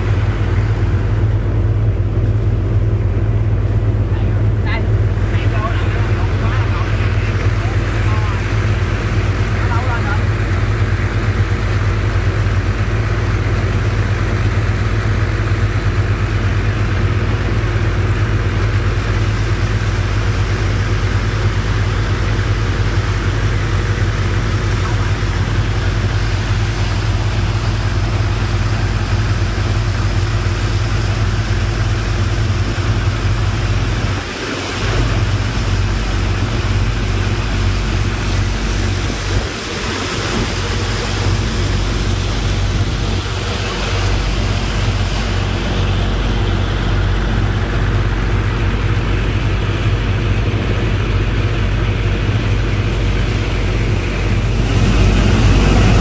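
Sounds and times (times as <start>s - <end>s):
pump engine humming: 0.0s - 56.0s.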